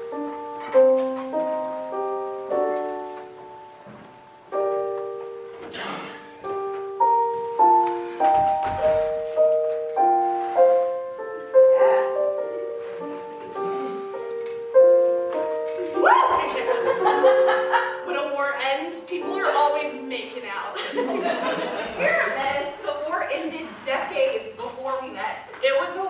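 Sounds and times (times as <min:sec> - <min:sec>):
slow gentle piano melody: 0:00.0 - 0:22.0.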